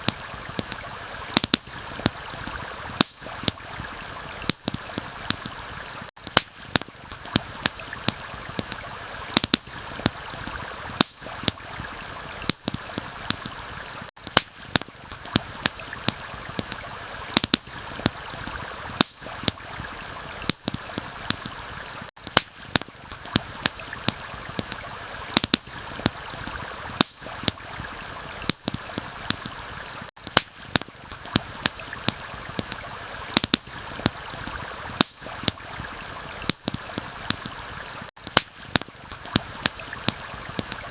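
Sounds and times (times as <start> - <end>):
campfire crackling and popping: 0.0 - 40.9
stream water running: 0.0 - 40.9.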